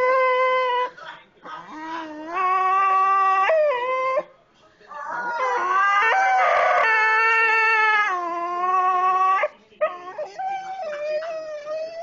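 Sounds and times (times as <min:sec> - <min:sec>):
dog howling: 0:00.0 - 0:00.9, 0:01.7 - 0:04.3, 0:04.9 - 0:12.0
dog whining: 0:00.0 - 0:01.0, 0:01.6 - 0:04.3, 0:04.9 - 0:12.0.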